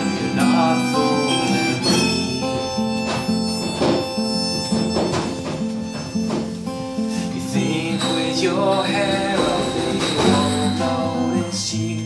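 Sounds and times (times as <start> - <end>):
acoustic guitar strumming: 0.0 - 12.0
harmonica melody: 0.0 - 12.0.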